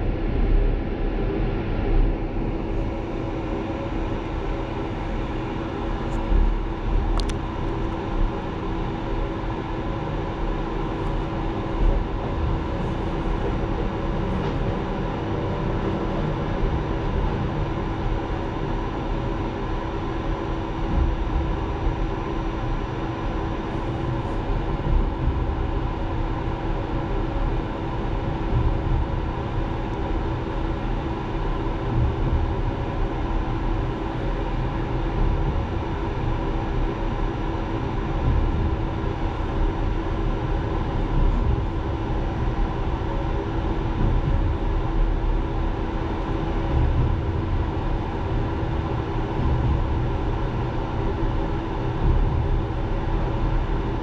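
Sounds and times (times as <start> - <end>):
constant hum: 0.0 - 54.0
train wheels rumbling on rail: 2.2 - 54.0.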